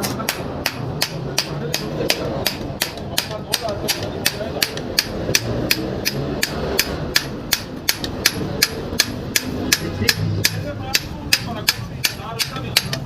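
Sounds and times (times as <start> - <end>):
hammer striking metal: 0.0 - 13.0.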